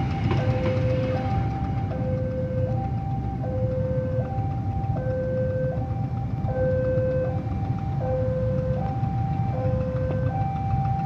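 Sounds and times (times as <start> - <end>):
train rumbling: 0.0 - 11.0
two-note electronic warning tone: 0.3 - 11.0.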